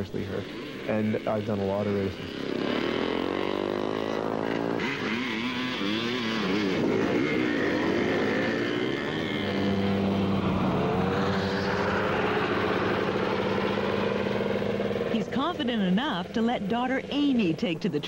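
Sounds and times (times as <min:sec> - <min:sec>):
atv engines racing: 0:00.0 - 0:18.0
dirt bike engine revving: 0:00.0 - 0:18.0.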